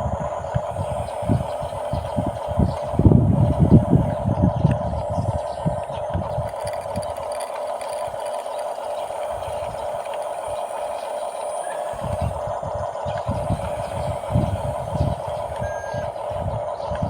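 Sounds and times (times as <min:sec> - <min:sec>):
electric motors and gearbox whirring: 0:00.0 - 0:17.0.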